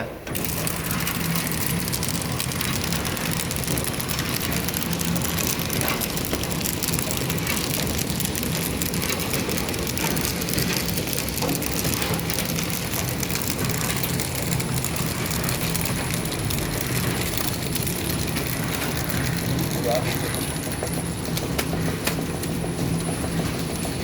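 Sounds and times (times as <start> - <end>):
low machine hum: 0.0 - 24.0
packing machine clatter: 0.3 - 24.0.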